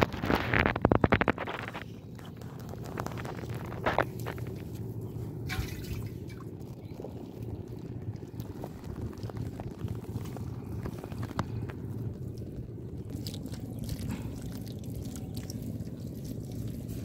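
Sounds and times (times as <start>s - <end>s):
hands patting wet mud: 0.0s - 17.0s.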